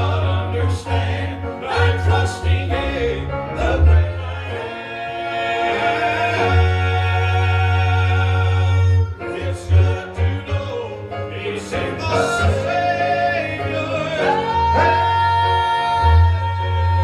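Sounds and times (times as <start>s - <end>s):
male quartet singing gospel: 0.0s - 17.0s.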